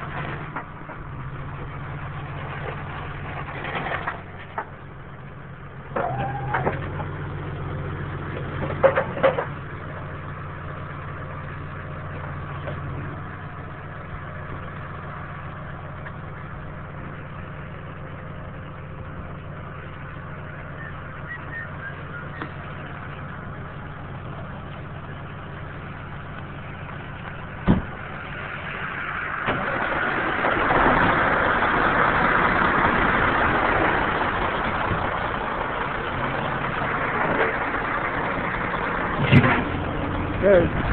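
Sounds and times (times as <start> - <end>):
clatters: 0.0 - 40.9
heavy engine idling: 0.0 - 40.9.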